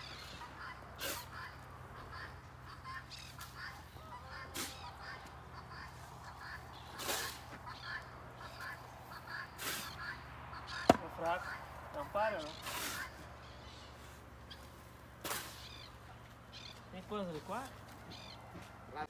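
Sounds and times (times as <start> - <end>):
farmyard birds chirping: 0.0 - 19.0.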